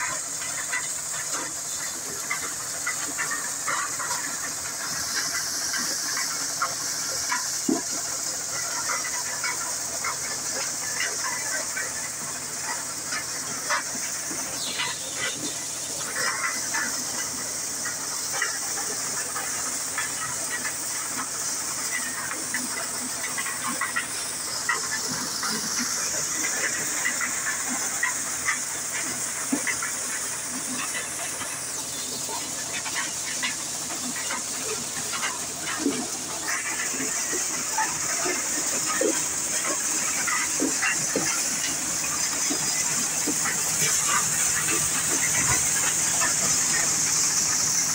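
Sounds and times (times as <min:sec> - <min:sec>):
rattles of cobs and kernels: 0:00.0 - 0:47.9
thresher machine hiss: 0:00.0 - 0:47.9.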